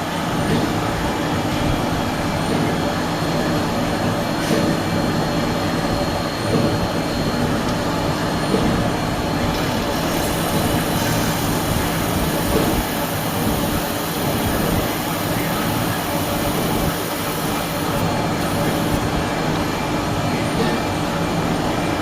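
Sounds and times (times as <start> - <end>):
milling machine running: 0.0 - 20.1.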